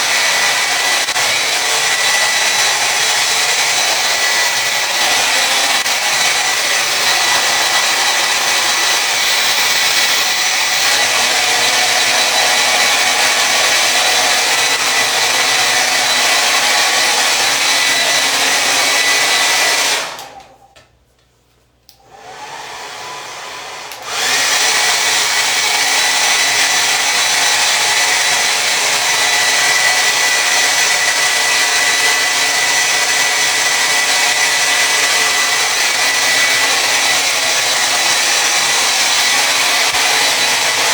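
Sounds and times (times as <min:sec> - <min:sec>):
hair dryer running: 0:00.0 - 0:20.7, 0:21.9 - 0:40.9.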